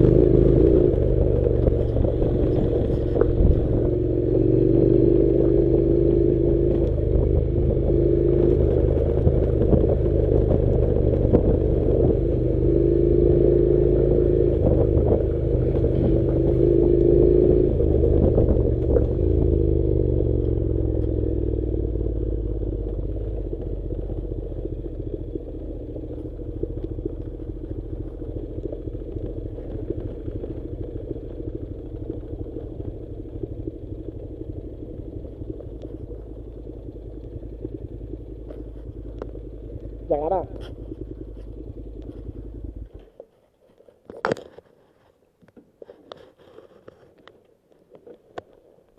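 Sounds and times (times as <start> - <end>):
motorcycle engine running: 0.0 - 43.4.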